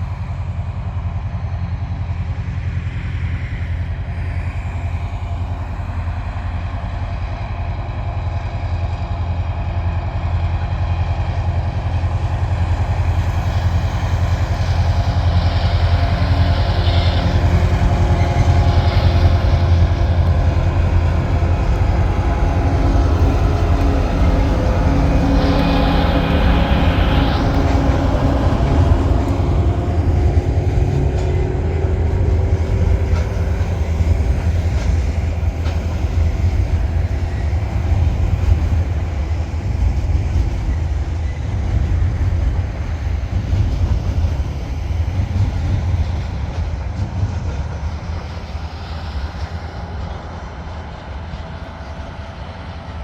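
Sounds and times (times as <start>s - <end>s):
diesel locomotive engine drone: 0.0s - 53.0s
train wheels rattling: 8.1s - 53.0s.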